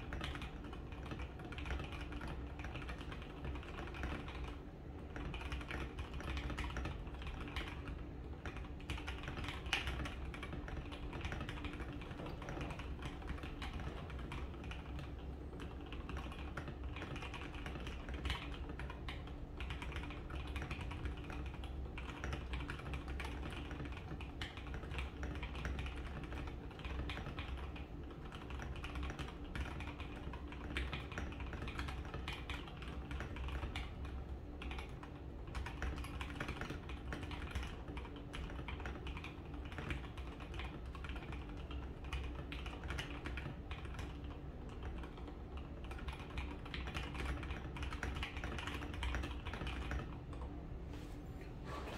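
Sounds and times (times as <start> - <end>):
fast typing on mechanical keyboard: 0.0 - 50.4.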